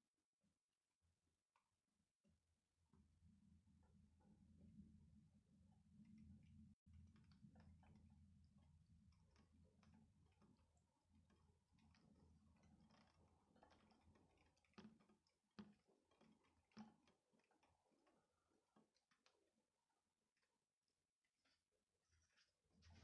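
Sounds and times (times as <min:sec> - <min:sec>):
faint irregular ticks: 0:03.0 - 0:23.0.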